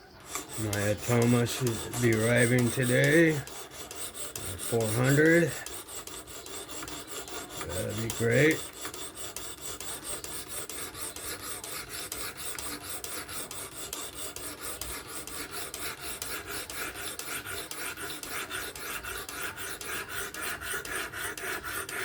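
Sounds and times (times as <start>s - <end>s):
sharpening stone rasping on blade: 0.1s - 22.0s.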